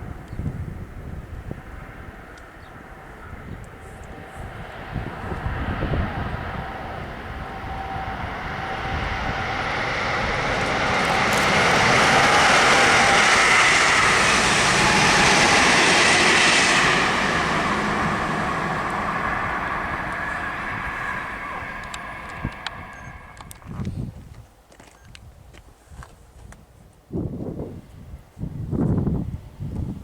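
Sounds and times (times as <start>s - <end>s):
train passing at speed: 0.0s - 24.2s.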